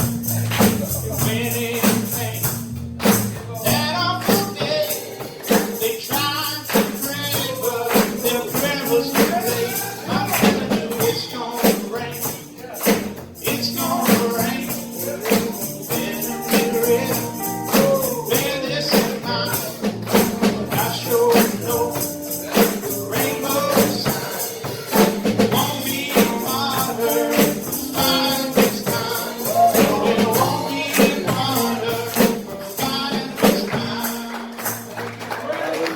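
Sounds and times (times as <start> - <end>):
fast percussion beat: 0.0 - 35.6
person singing: 3.5 - 34.6.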